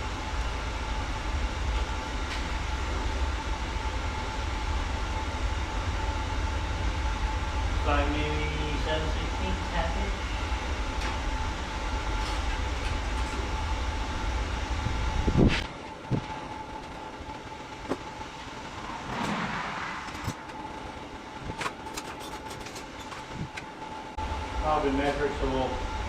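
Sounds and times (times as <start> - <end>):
air compressor running: 0.0 - 26.0.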